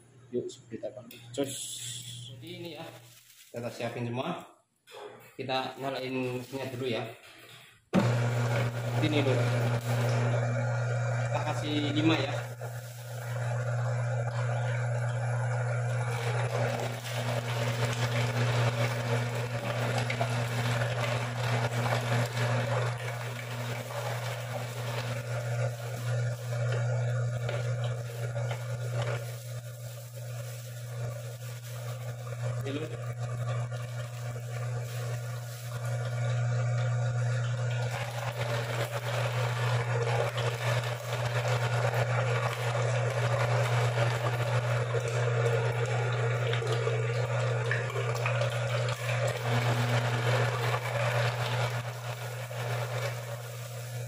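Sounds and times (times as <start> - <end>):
meat grinder motor humming: 8.0 - 54.0.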